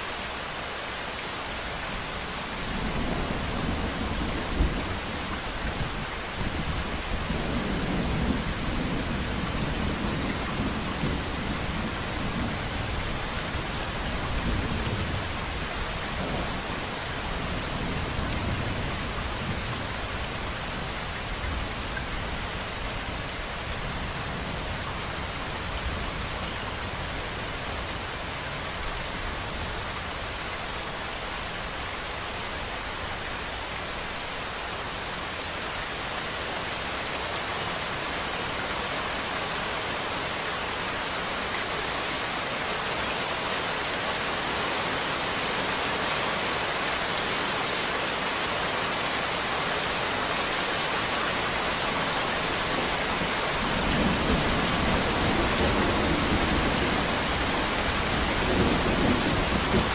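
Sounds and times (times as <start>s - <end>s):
rain falling on surfaces: 0.0s - 59.9s.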